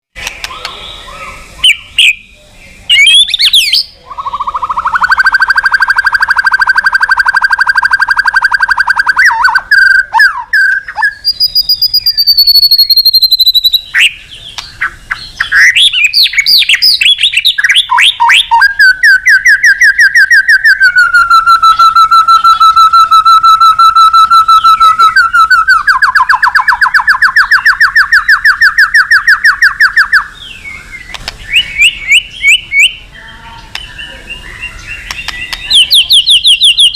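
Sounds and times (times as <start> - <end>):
bird singing rattling trills: 0.2 - 36.9.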